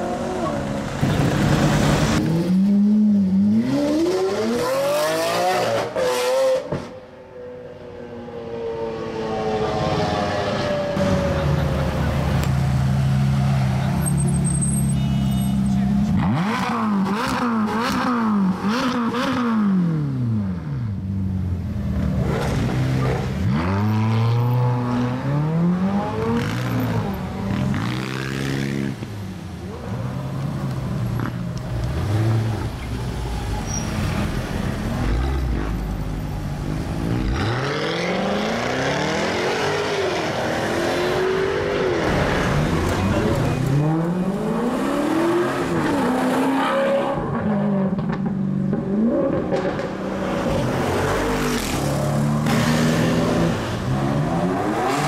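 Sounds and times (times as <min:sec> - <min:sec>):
sports car engines revving: 0:00.0 - 0:06.9, 0:15.5 - 0:55.0.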